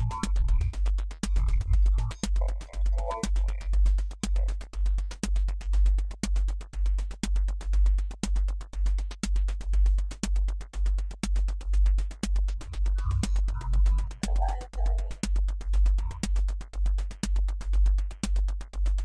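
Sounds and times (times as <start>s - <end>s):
clicking hi-hats: 0.0s - 19.0s
drum machine beat with bass: 0.0s - 19.0s.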